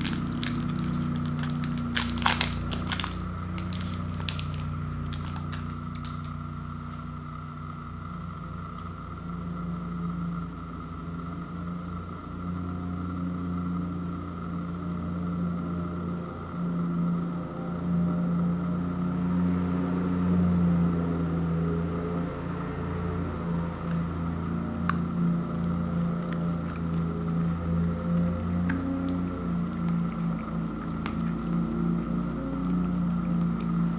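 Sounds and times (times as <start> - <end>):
motor droning: 0.0 - 33.9.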